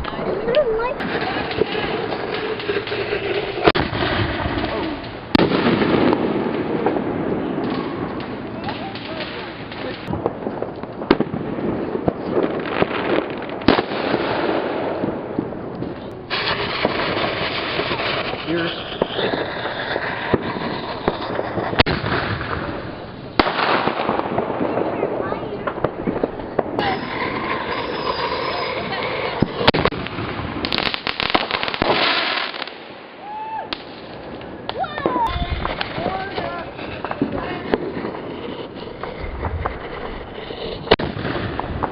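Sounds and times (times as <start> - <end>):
fireworks popping and crackling: 0.0 - 41.9
loud firework bang: 1.0 - 15.5, 16.3 - 34.0, 35.0 - 41.9.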